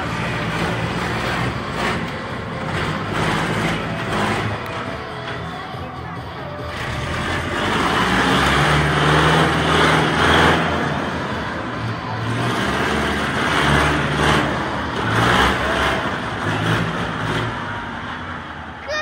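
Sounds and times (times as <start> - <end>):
monster truck engine revving: 0.0 - 18.9.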